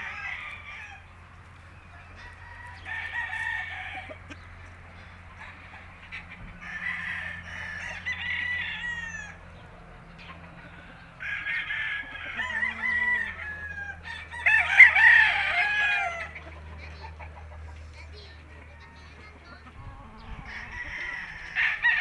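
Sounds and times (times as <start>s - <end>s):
roosters crowing: 0.0s - 22.0s.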